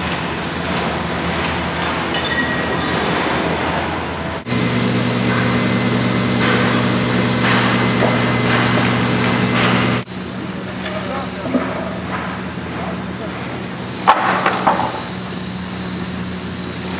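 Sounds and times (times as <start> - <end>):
engine droning: 0.0 - 16.9.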